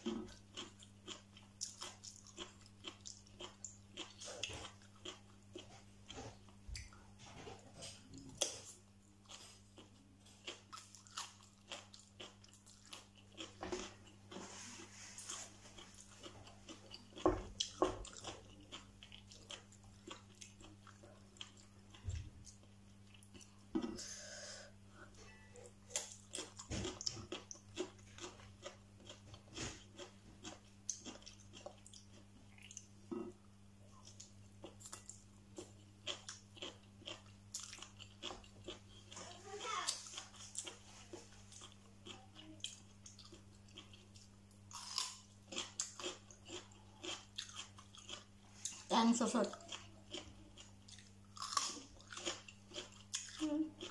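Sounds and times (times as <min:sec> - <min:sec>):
person chewing noodles: 0:00.0 - 0:24.7, 0:25.3 - 0:48.9, 0:49.5 - 0:53.9.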